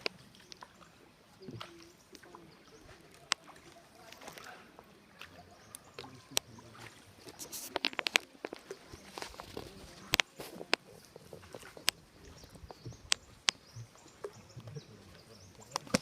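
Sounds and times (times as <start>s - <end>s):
paddle strokes in water: 0.0s - 16.0s.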